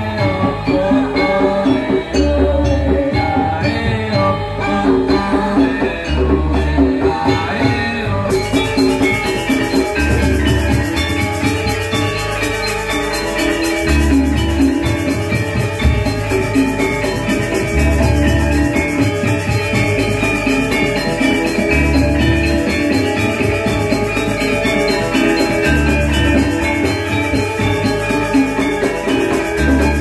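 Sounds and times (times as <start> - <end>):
drums: 0.0 - 30.0
metallophones fast melody: 0.0 - 30.0.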